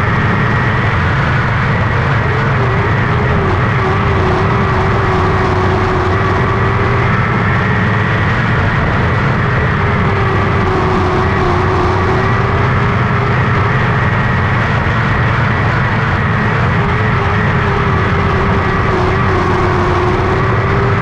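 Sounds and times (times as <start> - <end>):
race car engine at high revs: 0.0 - 21.0.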